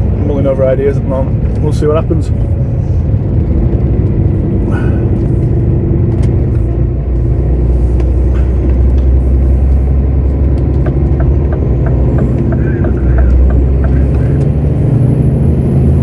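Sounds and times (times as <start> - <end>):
lorry diesel engine droning: 0.0 - 16.0.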